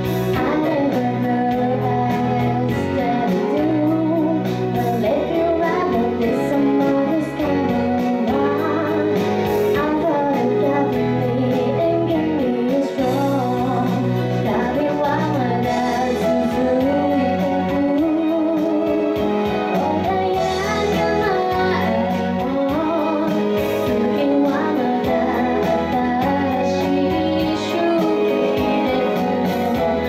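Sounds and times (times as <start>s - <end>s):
instrumental accompaniment with beat: 0.0s - 30.0s
woman singing into microphone: 0.0s - 30.0s.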